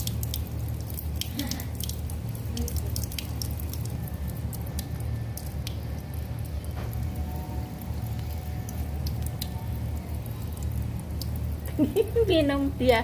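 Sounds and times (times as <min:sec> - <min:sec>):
cat lapping water: 0:00.0 - 0:12.3
steady low hum: 0:00.0 - 0:13.0
water drips and splashes: 0:00.0 - 0:13.0
water running from a tap: 0:00.0 - 0:13.0.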